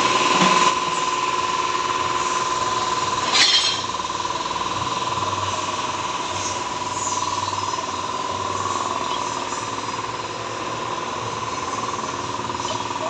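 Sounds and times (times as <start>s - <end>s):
van engine running with whine: 0.0s - 13.0s.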